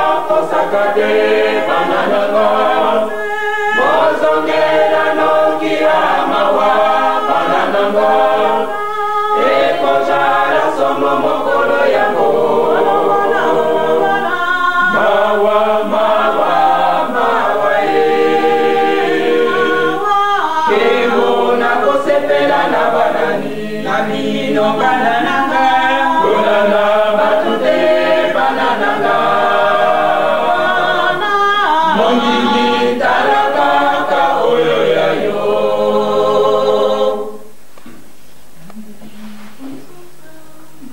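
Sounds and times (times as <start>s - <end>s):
choir singing a cappella: 0.0s - 37.6s.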